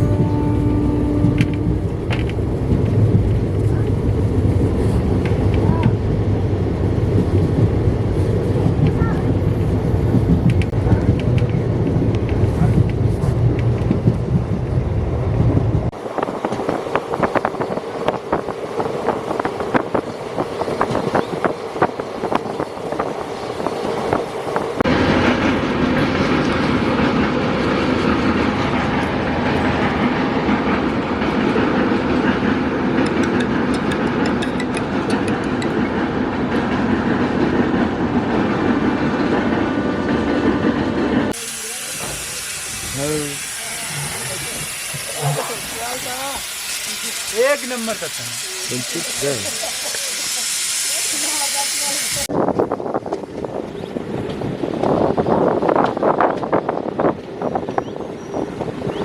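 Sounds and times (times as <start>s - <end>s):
train wheels clattering on rails: 0.0s - 48.4s
train coach rattling: 0.0s - 59.0s.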